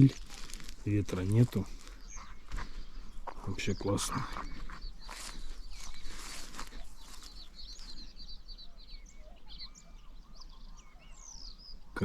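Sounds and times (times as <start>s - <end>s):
songbirds chirping and whistling: 0.0s - 12.0s.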